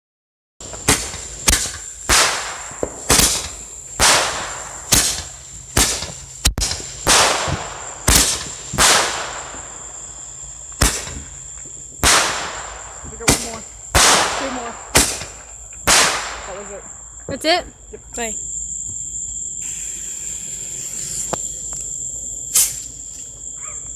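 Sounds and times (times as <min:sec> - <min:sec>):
fireworks bangs: 0:00.6 - 0:23.4.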